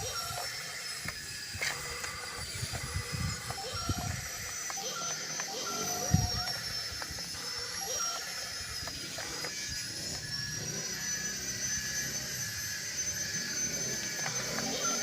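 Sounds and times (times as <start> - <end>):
model excavator motors whining: 0.0 - 15.0.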